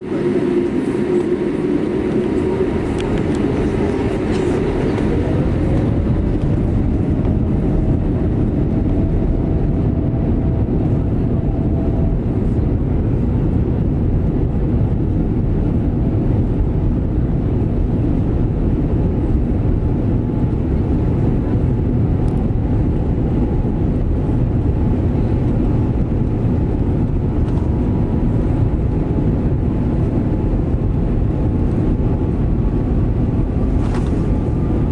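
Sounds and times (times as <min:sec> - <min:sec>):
jet engine whine rising: 0:00.0 - 0:34.9
jet engines rumbling: 0:00.0 - 0:34.9.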